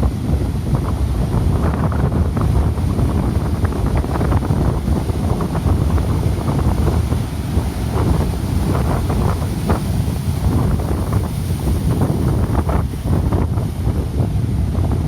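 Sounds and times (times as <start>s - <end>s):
heavy surf: 0.0s - 15.0s
strong wind buffeting microphone: 0.0s - 15.0s.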